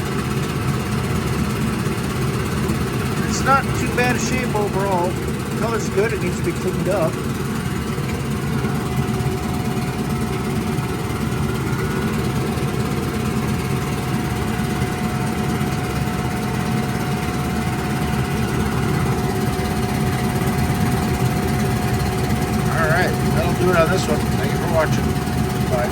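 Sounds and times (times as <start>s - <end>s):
outboard motor running: 0.0s - 25.9s.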